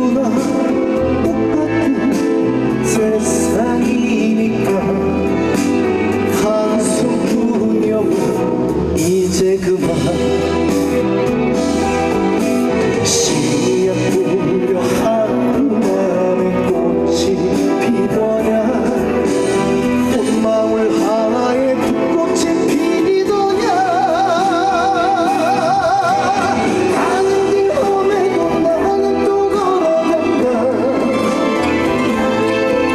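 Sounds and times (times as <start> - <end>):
guitar: 0.0 - 32.9
person singing: 0.0 - 32.9
trot song from stage band: 0.0 - 32.9.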